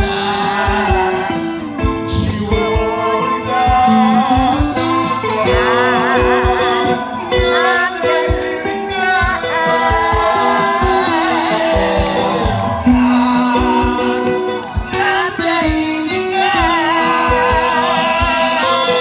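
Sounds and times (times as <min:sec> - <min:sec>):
bass drum beat: 0:00.0 - 0:19.0
keyboard chords: 0:00.0 - 0:19.0
person singing pop ballad: 0:00.0 - 0:19.0.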